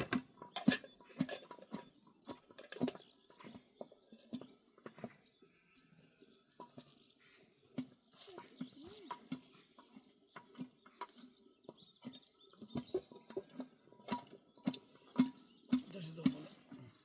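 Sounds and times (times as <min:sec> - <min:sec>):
small birds chirping: 0:00.0 - 0:17.0
footsteps on the ground: 0:03.2 - 0:16.9.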